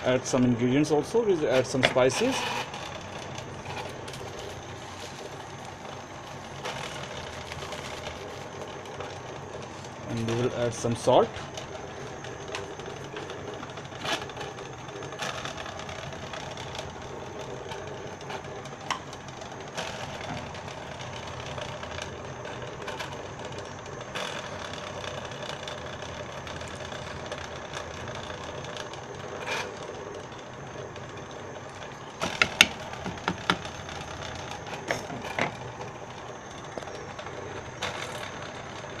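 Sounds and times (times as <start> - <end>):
pot boiling and bubbling: 0.0 - 39.0.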